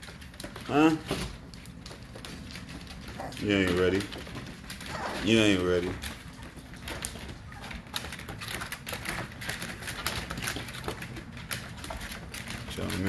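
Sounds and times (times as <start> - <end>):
puppy claws clicking and scratching: 0.0 - 13.0.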